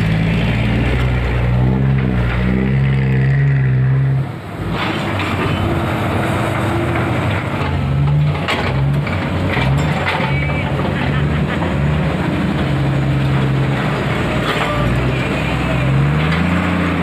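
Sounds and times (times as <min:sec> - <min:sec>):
diesel truck engine driving past: 0:00.0 - 0:10.0, 0:10.6 - 0:17.0.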